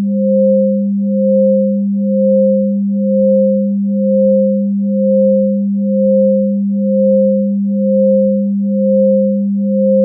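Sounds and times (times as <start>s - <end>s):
low electronic hum: 0.0s - 10.0s
pulsing sine tone: 0.0s - 10.0s.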